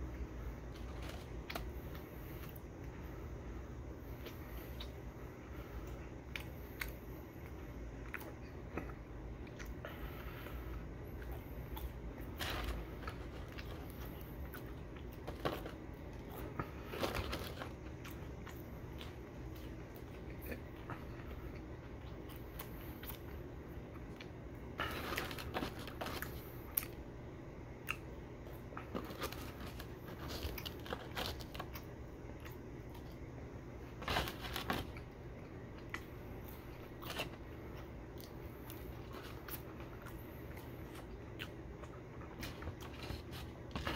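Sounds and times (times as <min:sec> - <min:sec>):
chewing french fries: 0:00.1 - 0:03.0, 0:04.0 - 0:43.9.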